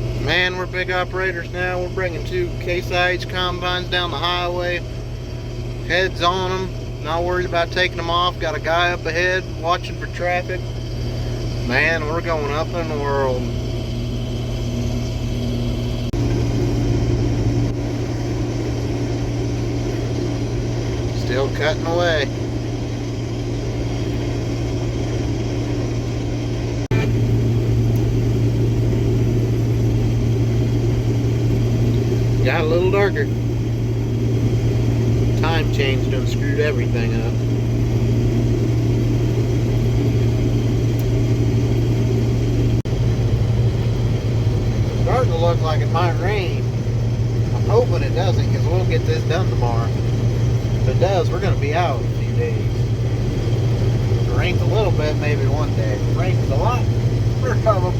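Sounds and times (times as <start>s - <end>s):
combine engine droning: 0.0s - 57.9s.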